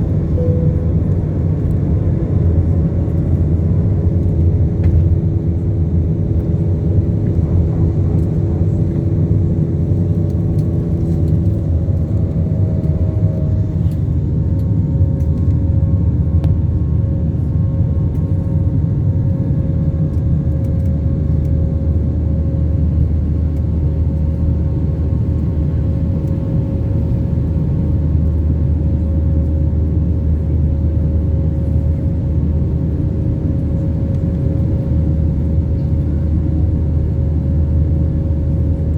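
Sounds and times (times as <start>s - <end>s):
aircraft engines rumbling: 0.0s - 38.9s.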